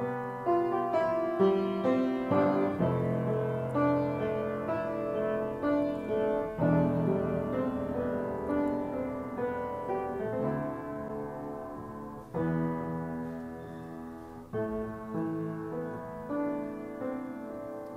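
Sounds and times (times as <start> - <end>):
piano chords ringing: 0.0 - 17.9.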